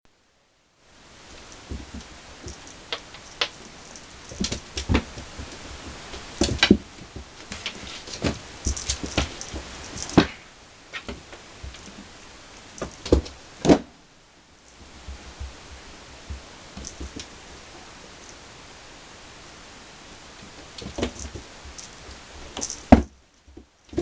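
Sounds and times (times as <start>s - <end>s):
steady hiss: 0.1s - 24.0s.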